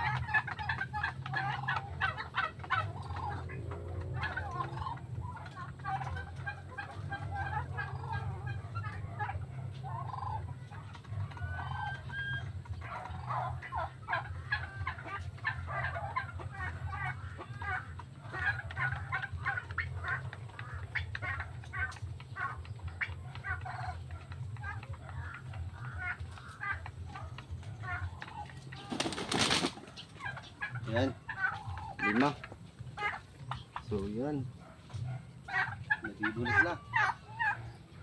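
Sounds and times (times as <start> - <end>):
chickens clucking: 0.0 - 38.0
turkeys gobbling and clucking: 0.0 - 38.0.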